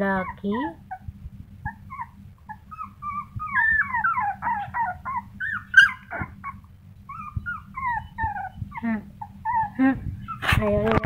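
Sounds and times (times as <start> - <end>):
puppy yelping: 0.0 - 10.7
puppy whining: 0.0 - 11.0.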